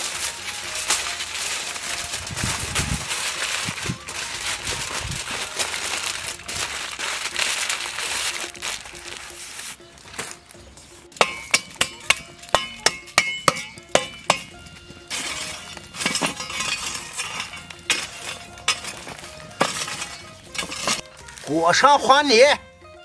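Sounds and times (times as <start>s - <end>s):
charcoal pieces clinking: 0.0s - 21.5s
shovel scraping through coals: 0.0s - 22.4s.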